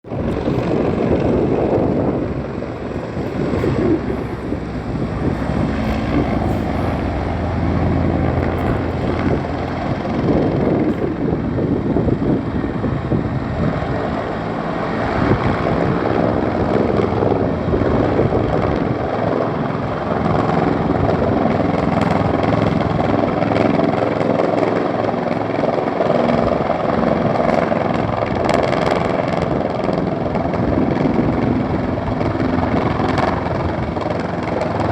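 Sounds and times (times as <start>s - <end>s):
helicopter flying: 0.0s - 34.9s.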